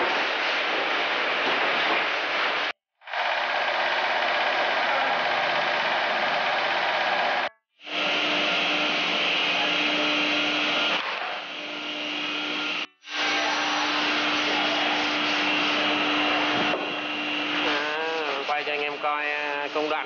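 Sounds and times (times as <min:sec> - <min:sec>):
electric fan blowing air: 0:00.0 - 0:20.0
fan motor hum: 0:03.1 - 0:20.0.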